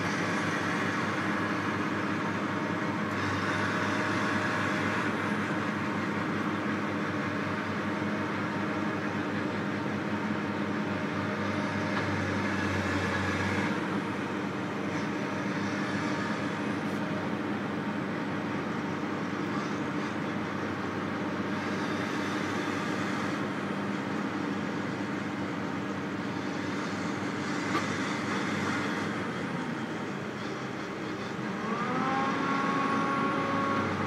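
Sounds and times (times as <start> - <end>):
heavy diesel machinery drone: 0.0 - 34.0.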